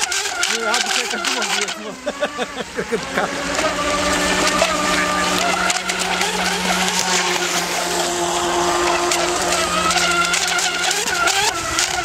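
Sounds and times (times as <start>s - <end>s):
toy boat motor whining: 0.0s - 12.0s.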